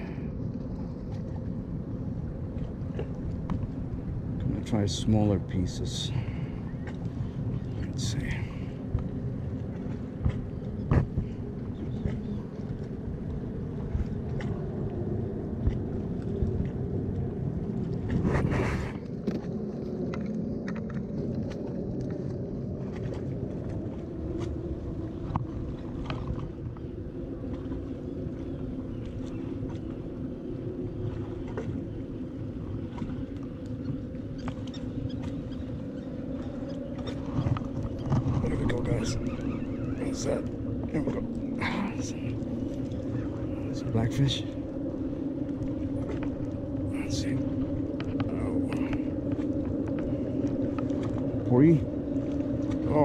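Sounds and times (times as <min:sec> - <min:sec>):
low engine rumble: 0:00.0 - 0:53.0.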